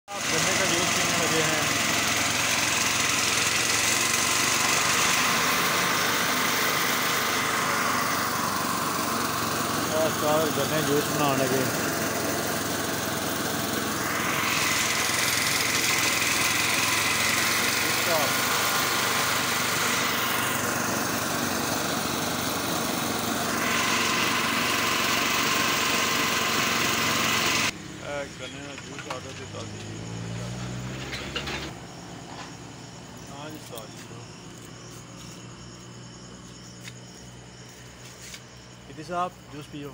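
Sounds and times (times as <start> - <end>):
small engine running: 0.1 - 39.9.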